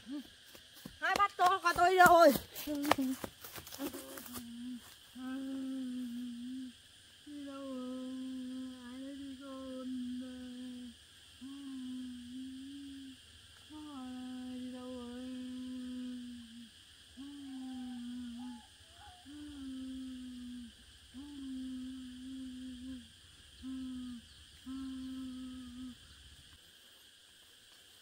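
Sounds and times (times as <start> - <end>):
woman humming: 0.0 - 0.3, 2.7 - 26.2.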